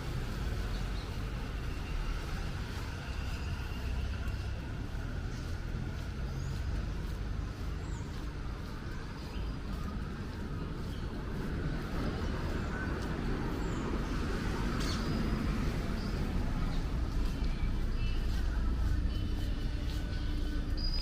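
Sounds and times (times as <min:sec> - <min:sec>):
passing traffic hum: 0:00.0 - 0:21.0.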